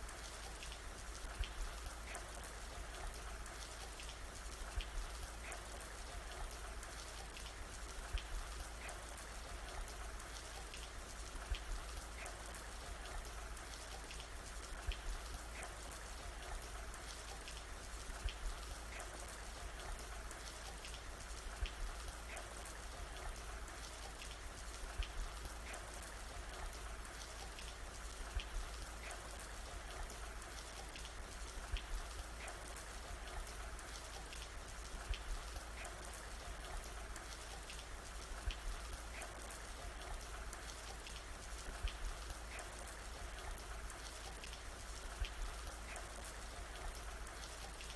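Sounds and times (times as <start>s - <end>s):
rain drops tapping: 0.0s - 47.9s.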